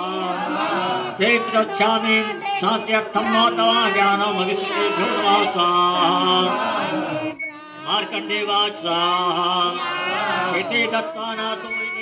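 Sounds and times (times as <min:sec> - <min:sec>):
voices chanting: 0:00.0 - 0:11.7
short high ringing tone: 0:00.5 - 0:03.9, 0:05.0 - 0:12.0.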